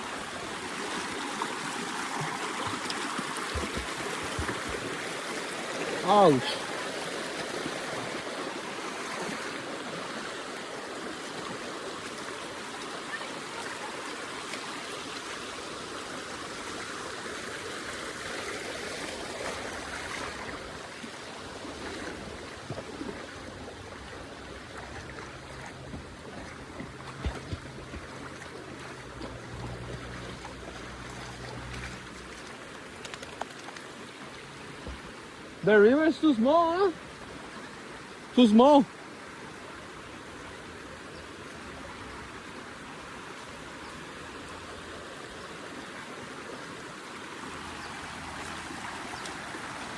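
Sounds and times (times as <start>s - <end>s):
small river flowing: 0.0s - 49.9s.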